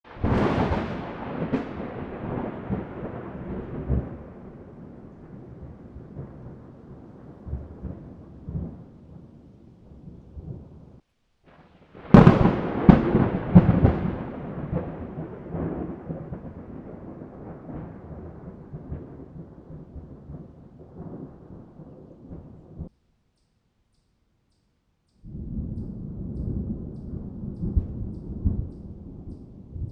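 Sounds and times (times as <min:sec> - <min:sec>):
sharp thunderclap: 0:00.1 - 0:09.2, 0:12.0 - 0:22.9, 0:25.3 - 0:29.9
thunder rumbling: 0:00.1 - 0:11.0, 0:11.8 - 0:22.9, 0:25.3 - 0:29.9.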